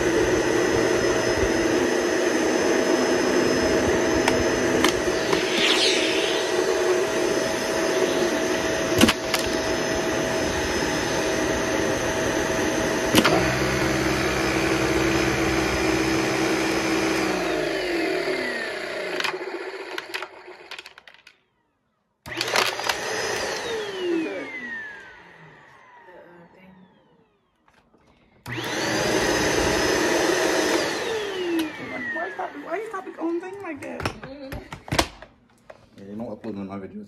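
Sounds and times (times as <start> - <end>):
vacuum cleaner running: 0.0 - 20.8, 22.2 - 34.9.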